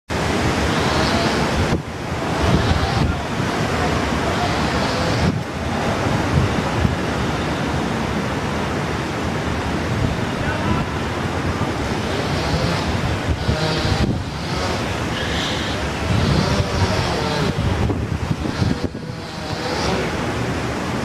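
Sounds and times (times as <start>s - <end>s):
strong wind buffeting microphone: 0.1s - 21.0s.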